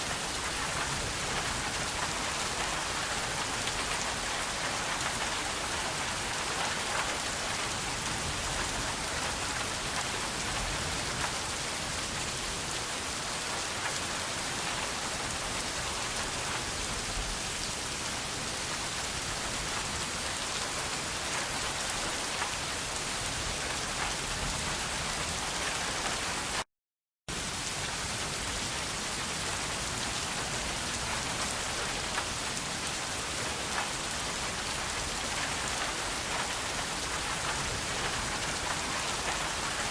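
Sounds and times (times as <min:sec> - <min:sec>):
steady rain falling: 0:00.0 - 0:26.7, 0:27.3 - 0:39.9.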